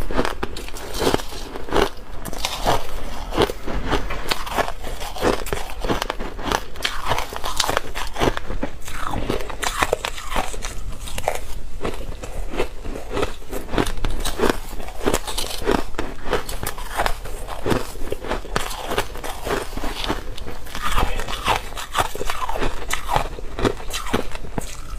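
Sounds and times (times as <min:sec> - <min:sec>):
ice crunching being chewed: 0:00.0 - 0:24.9.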